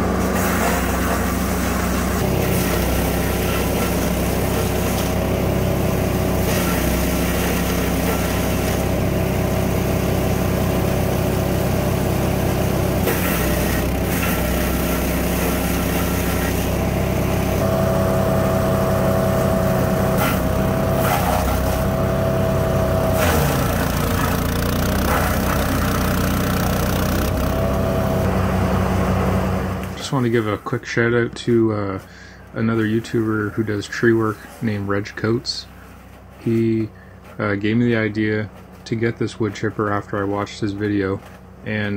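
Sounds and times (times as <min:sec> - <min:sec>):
wood chipper engine running: 0:00.0 - 0:41.9.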